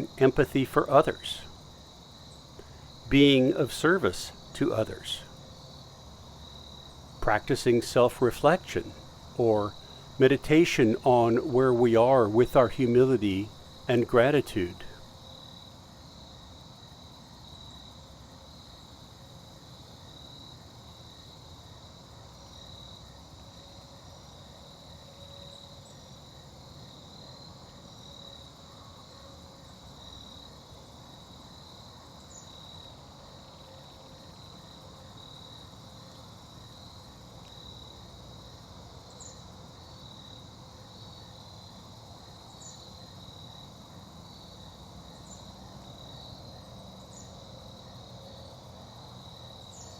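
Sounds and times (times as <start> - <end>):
crickets trilling: 0.0 - 49.9
faint background hiss: 0.0 - 49.9.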